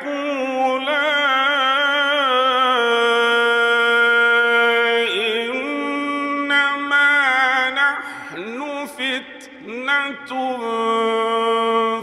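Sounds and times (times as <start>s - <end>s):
man chanting through a microphone: 0.0s - 12.0s.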